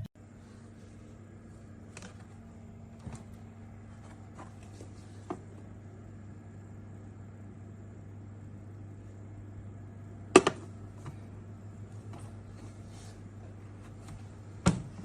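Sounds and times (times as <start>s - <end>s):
cooler box humming: 0.0s - 15.0s.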